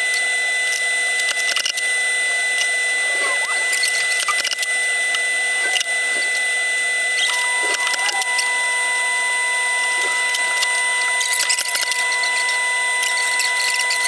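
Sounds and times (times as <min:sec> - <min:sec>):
high-pitched machine whine: 0:00.0 - 0:14.0
steady tone: 0:02.4 - 0:14.0.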